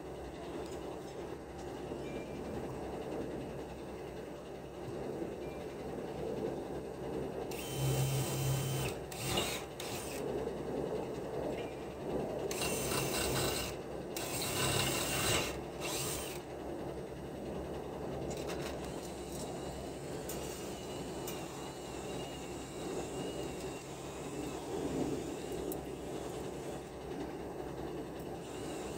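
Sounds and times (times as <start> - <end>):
low background rumble: 0.0 - 28.9.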